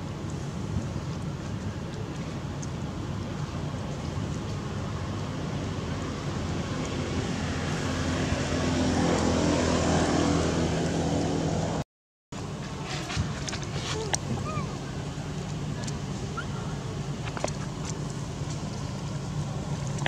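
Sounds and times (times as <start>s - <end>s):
vehicle engine humming: 0.0s - 11.8s, 12.4s - 20.0s.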